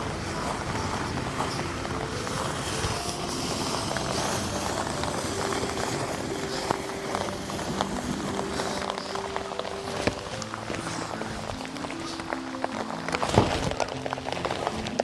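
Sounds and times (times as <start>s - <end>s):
soft background music: 0.0s - 15.0s
steady rain: 0.0s - 15.0s.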